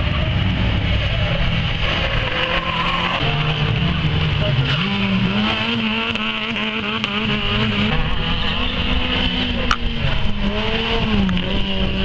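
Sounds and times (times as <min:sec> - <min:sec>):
small car engines revving high: 0:00.0 - 0:12.0.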